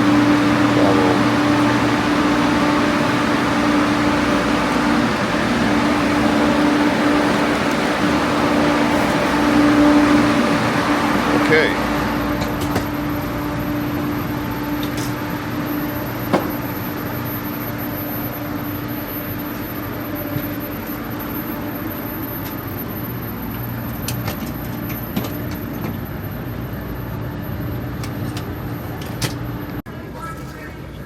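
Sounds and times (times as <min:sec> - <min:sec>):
train car rumble: 0:00.0 - 0:31.0.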